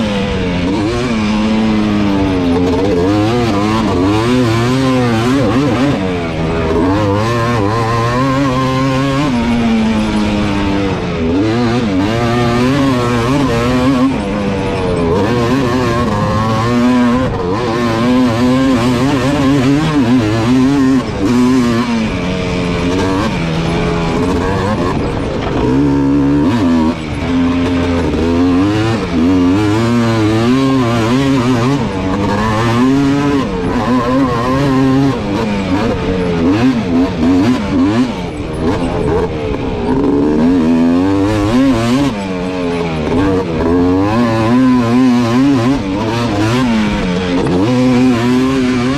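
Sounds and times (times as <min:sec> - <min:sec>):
atv engine revving: 0:00.0 - 0:48.9.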